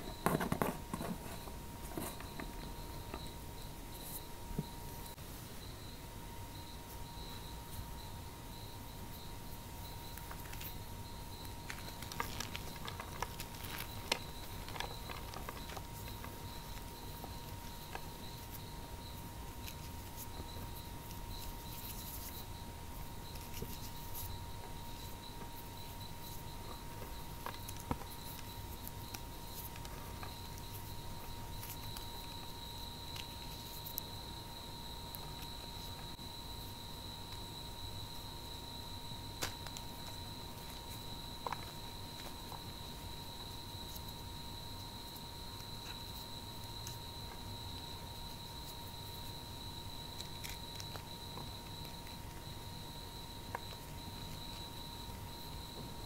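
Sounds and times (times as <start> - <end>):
faint steady high tone: 0.0 - 56.0.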